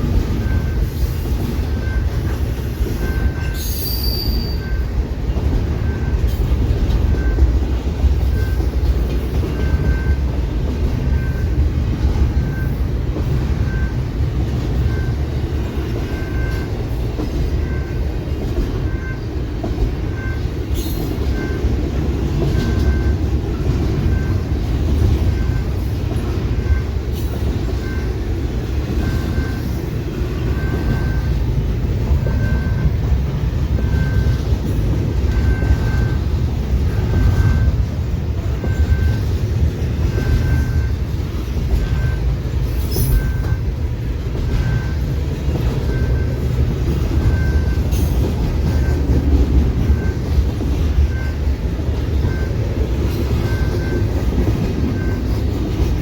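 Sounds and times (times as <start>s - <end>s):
crossing bell ringing: 0.0s - 56.0s
train wheels rumbling on rails: 0.0s - 56.0s.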